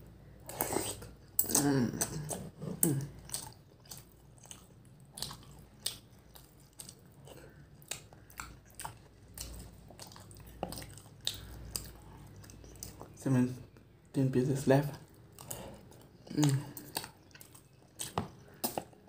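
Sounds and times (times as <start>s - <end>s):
chewing and mouth sounds: 0.4s - 13.9s, 14.9s - 19.0s.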